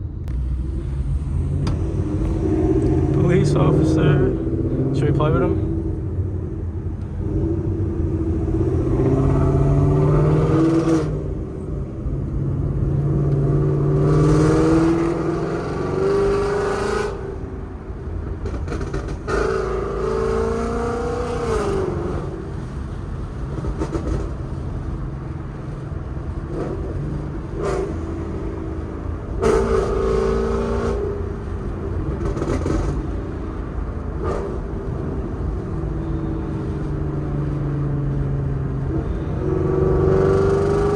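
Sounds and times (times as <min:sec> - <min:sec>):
car exhaust accelerating hard: 0:00.0 - 0:40.9.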